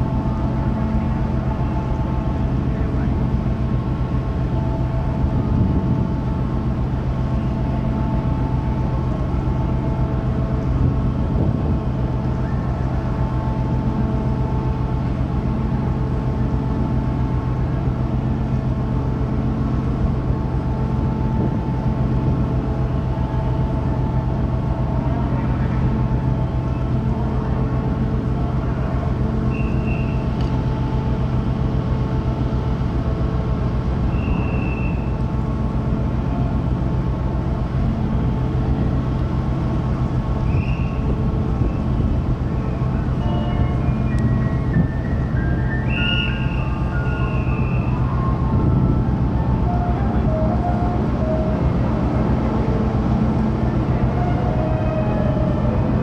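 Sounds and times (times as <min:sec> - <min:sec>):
ship diesel machinery humming: 0:00.0 - 0:56.0
steady machinery tones: 0:00.0 - 0:56.0.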